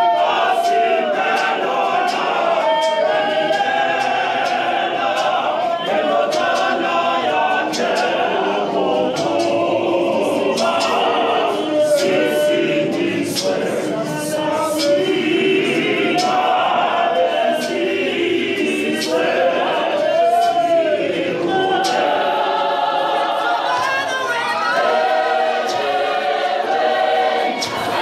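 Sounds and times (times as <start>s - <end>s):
gospel choir singing unaccompanied: 0.0s - 28.0s.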